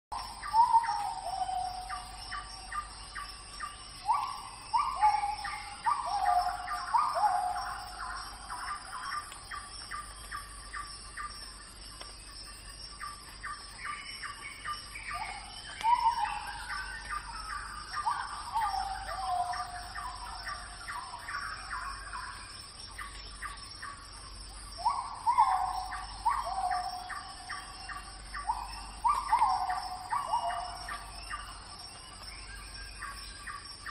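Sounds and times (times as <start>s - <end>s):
birds ticking chatter: 0.3s - 33.9s.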